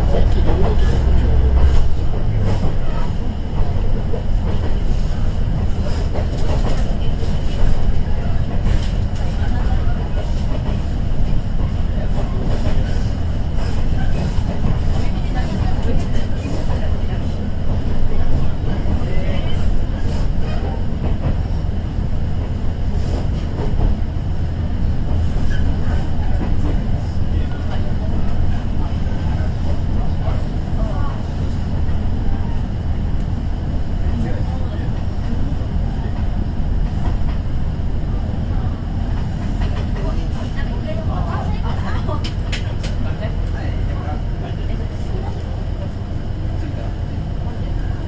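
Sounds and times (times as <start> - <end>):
low engine rumble: 0.0 - 48.0
train wheels on rails: 0.0 - 48.0.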